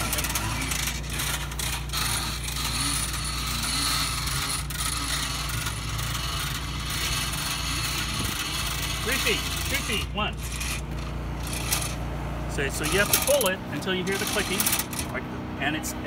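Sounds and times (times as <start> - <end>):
hose reel ratchet clicking: 0.0 - 12.0, 12.8 - 15.2.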